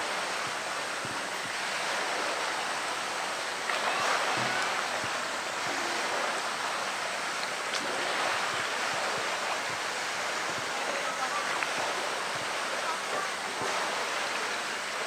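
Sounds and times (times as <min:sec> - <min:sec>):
running water: 0:00.0 - 0:15.0
small splashes: 0:00.0 - 0:15.0.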